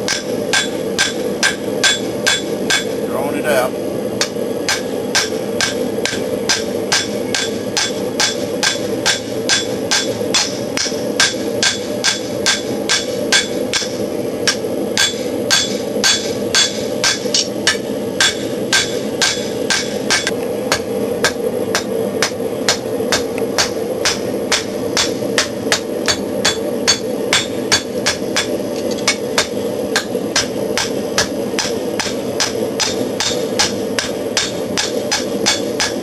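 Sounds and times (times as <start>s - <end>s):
hammer striking steel on anvil: 0.0s - 3.0s, 4.2s - 36.0s
forge blower rushing: 0.0s - 36.0s.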